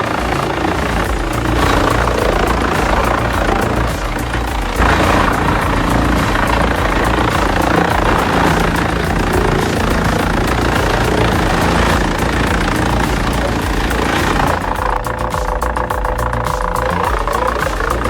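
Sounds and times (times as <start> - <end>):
heavy machinery engine pulsing: 0.0 - 18.0.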